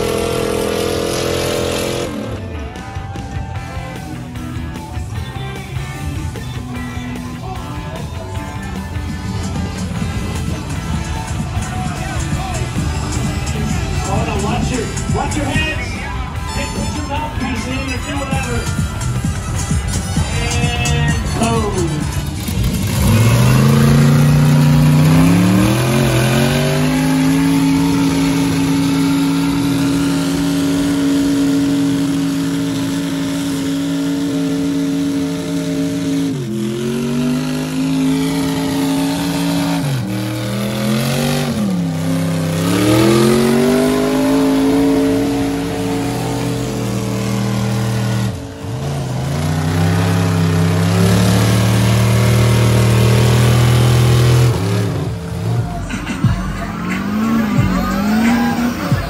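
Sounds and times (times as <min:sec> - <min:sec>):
truck engine revving hard: 0:00.0 - 0:59.0.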